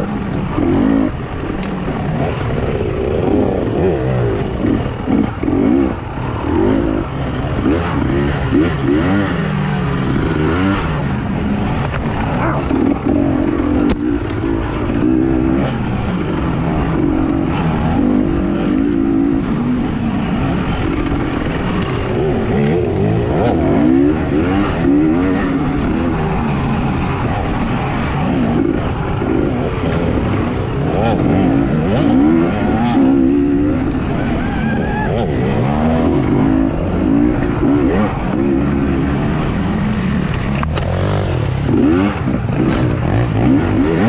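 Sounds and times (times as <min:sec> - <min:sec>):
constant rushing noise: 0:00.0 - 0:44.0
dirt bike engine revving: 0:00.0 - 0:44.0.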